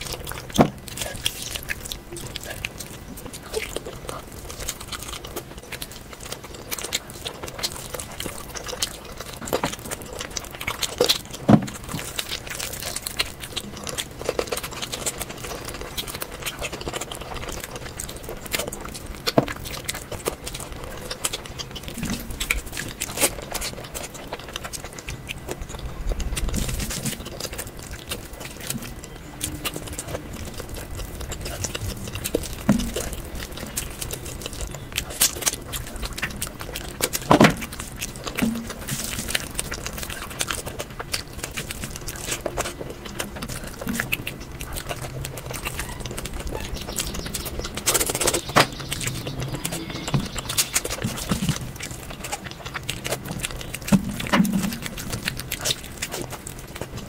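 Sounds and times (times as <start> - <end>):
person biting and chewing: 0.0 - 57.0
small sharp clicks and crackles: 0.0 - 57.0.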